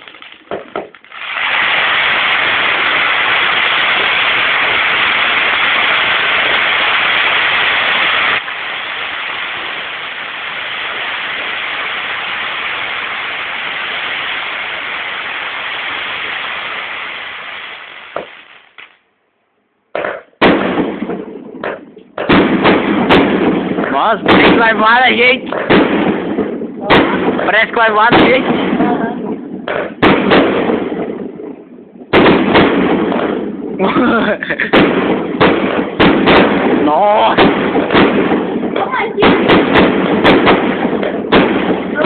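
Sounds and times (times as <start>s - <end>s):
firework fountain hissing: 0.0s - 19.0s, 20.2s - 42.0s
sharp firework bangs: 0.0s - 19.0s, 19.9s - 42.0s.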